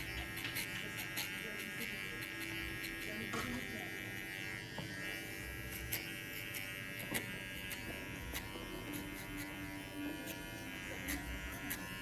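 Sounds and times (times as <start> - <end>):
hair clippers buzzing: 0.0 - 12.0.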